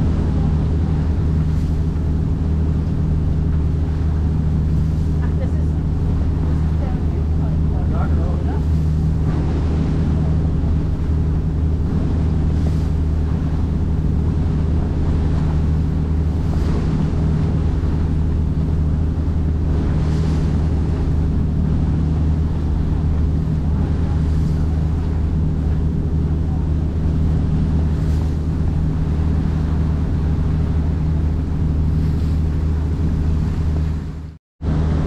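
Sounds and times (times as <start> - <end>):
boat engine droning: 0.0 - 35.0
water rushing past hull: 0.0 - 35.0
wind on microphone: 0.0 - 35.0.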